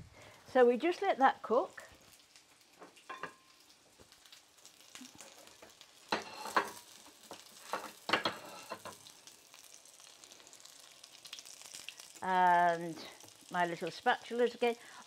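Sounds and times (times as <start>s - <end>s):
fritters sizzling in oil: 0.0s - 15.0s.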